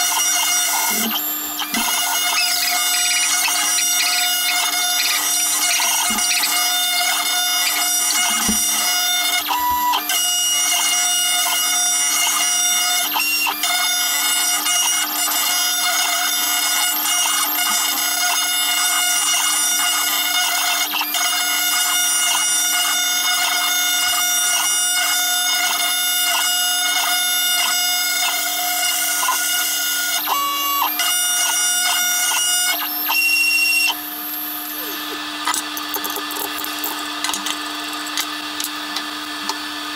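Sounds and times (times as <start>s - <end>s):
router motors high-pitched drone: 0.0s - 39.9s.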